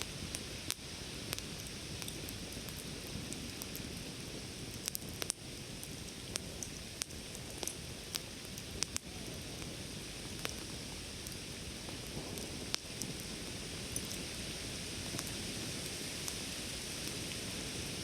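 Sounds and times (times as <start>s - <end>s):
campfire hiss: 0.0s - 18.0s
fire crackles and pops: 0.0s - 18.0s.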